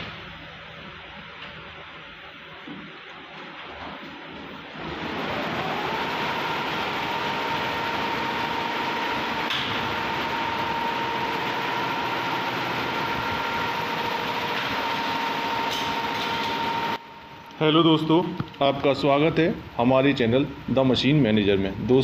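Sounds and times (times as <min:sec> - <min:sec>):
machine whine: 0:00.0 - 0:22.0.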